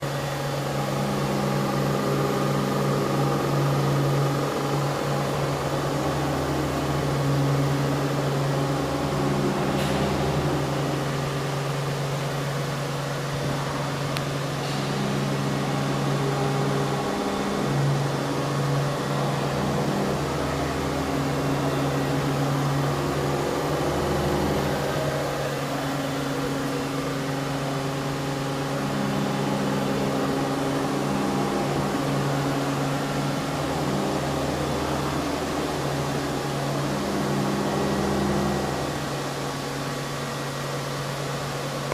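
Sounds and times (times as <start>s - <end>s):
milling machine humming: 0.0s - 41.9s.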